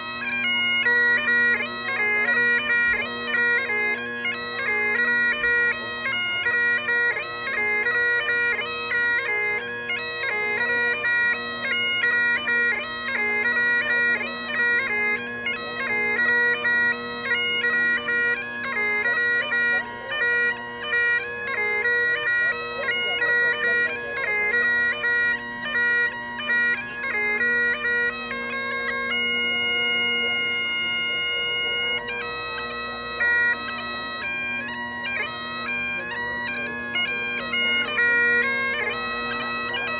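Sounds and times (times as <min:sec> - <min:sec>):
bagpipes playing a tune: 0:00.0 - 0:39.9.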